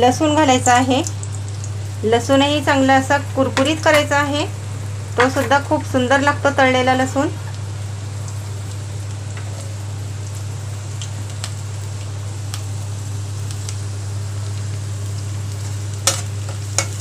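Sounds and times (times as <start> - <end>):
garlic sizzling in hot oil: 0.0 - 17.0
low steady hum: 0.0 - 17.0.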